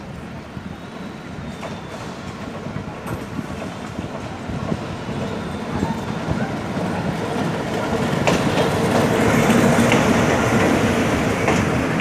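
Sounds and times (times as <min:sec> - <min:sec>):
diesel train approaching: 0:00.0 - 0:12.0.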